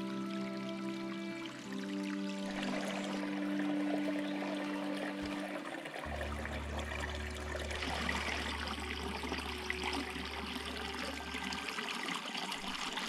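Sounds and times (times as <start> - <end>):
creek trickling over rocks: 0.0 - 13.0.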